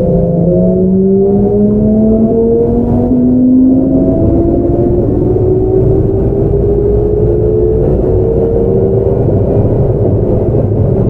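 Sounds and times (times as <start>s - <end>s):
train inverter whining: 0.0s - 11.0s
wheels rumbling on rail: 0.0s - 11.0s.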